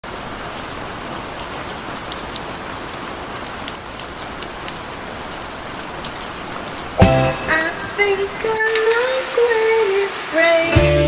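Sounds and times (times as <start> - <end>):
rain drop hits: 0.0 - 11.0
steady rain hiss: 0.0 - 11.0.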